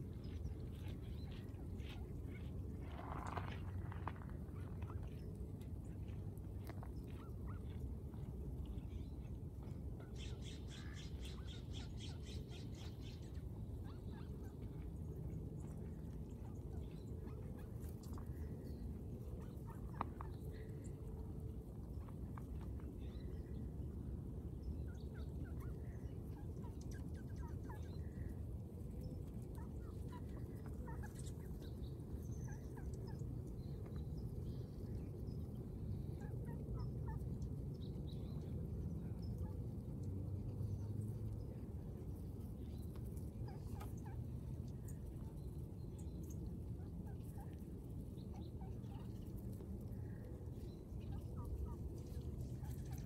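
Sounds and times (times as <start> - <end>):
ducks pecking and rustling grass: 0.0 - 10.2, 12.3 - 53.0
steady low rumble: 0.0 - 53.0.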